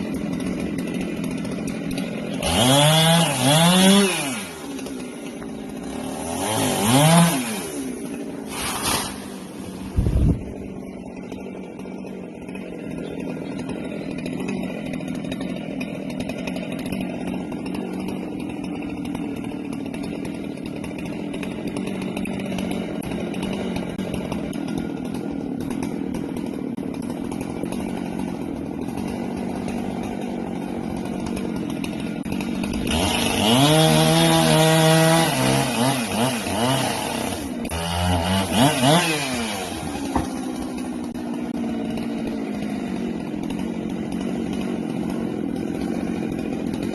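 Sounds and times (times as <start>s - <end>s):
chainsaw running and revving: 0.0s - 46.9s.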